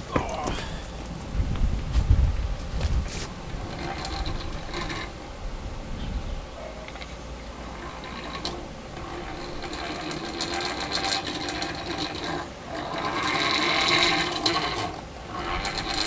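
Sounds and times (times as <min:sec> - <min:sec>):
forge blower whirring: 0:00.0 - 0:16.0.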